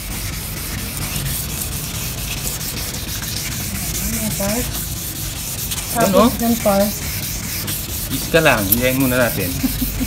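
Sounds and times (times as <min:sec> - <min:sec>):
sandpaper rasping on plastic: 0:00.0 - 0:10.0.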